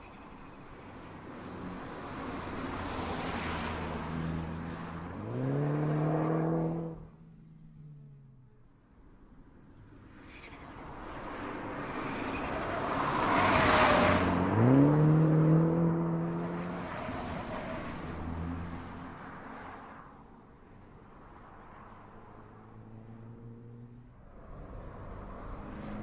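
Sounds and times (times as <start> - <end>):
car tyres on road: 0.0 - 26.0.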